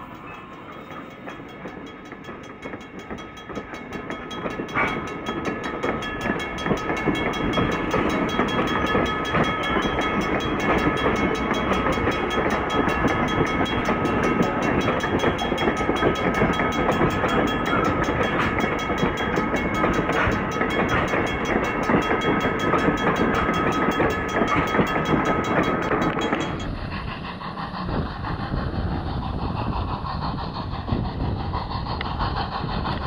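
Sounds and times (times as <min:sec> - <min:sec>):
thin high ringing tone: 0:00.0 - 0:26.8
train wheels clattering over rail joints: 0:00.0 - 0:33.0.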